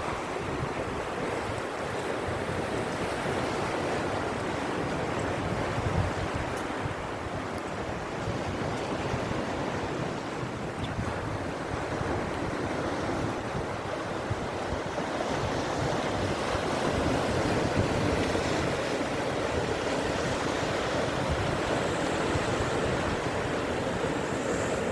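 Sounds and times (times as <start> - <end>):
sea waves washing onto shore: 0.0 - 24.9
wind buffeting microphone: 0.0 - 24.9.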